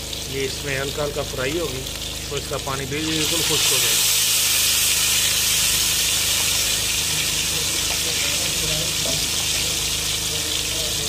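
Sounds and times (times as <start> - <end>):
fish sizzling in hot fat: 0.0 - 11.0.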